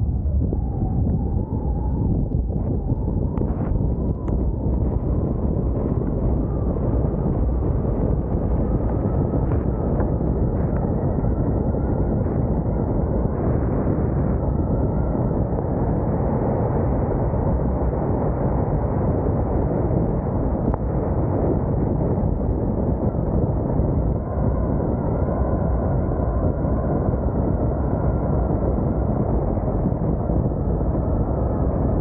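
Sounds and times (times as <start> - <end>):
muffled wind rush: 0.0 - 32.0.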